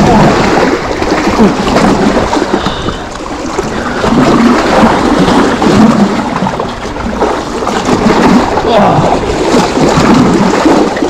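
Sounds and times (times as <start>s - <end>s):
water splashing and gurgling: 0.0s - 11.0s.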